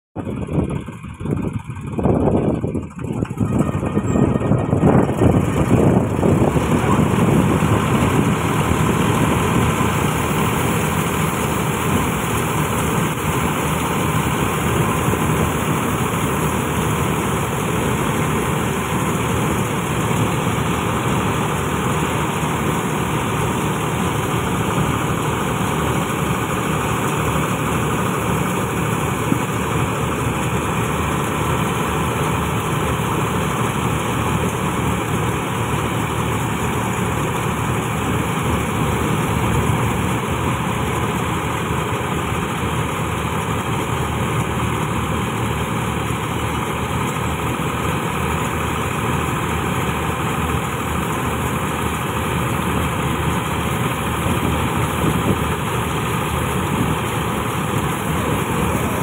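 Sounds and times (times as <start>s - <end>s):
combine harvester running: 0.2s - 59.0s
grain pouring from auger: 2.0s - 59.0s.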